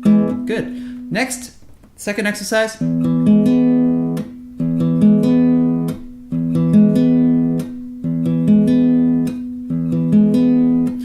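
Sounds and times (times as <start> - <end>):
acoustic guitar fingerpicking: 0.0 - 2.0, 2.8 - 11.0.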